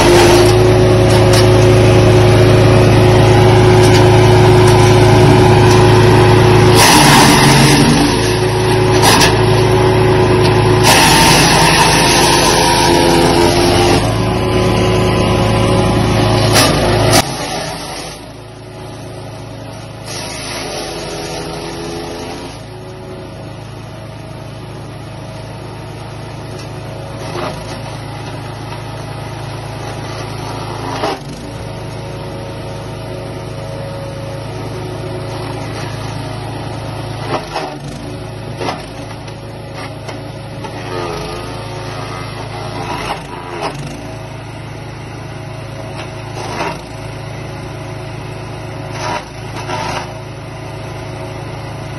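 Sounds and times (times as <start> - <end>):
petrol engine running under load: 0.0 - 51.9.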